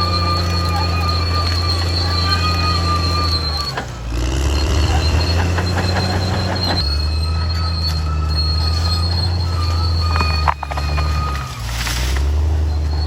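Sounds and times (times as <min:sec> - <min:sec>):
diesel engine running: 0:00.0 - 0:13.0
steel tracks squealing: 0:00.0 - 0:13.0
track clanks: 0:00.0 - 0:13.0.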